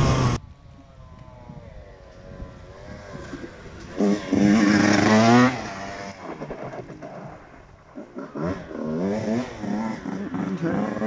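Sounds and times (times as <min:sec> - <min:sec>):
two-stroke motorbike revving: 0:00.0 - 0:00.4, 0:01.4 - 0:11.0.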